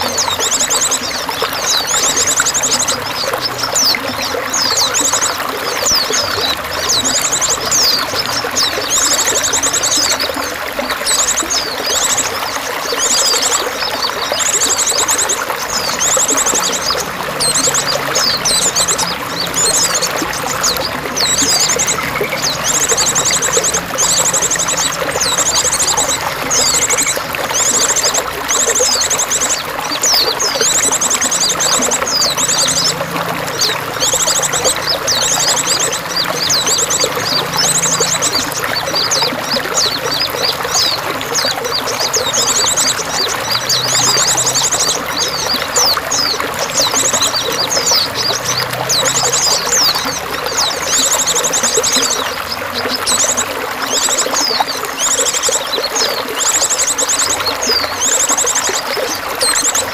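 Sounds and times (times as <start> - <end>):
running water splashing: 0.0 - 59.9
small birds chirping and trilling: 0.0 - 59.9.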